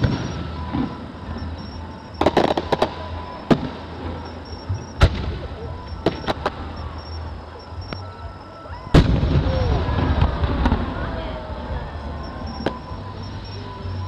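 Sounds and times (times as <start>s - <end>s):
fireworks bangs: 0.0s - 7.3s, 8.9s - 13.5s.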